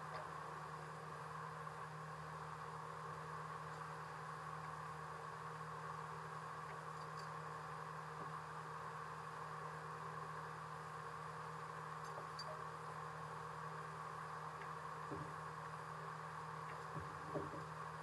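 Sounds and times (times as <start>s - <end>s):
faint mechanical hum: 0.0s - 18.0s.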